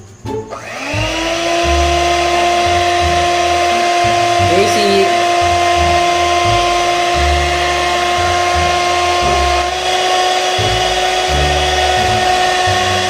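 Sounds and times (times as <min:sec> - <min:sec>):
electric hand mixer whining: 0:00.5 - 0:13.0.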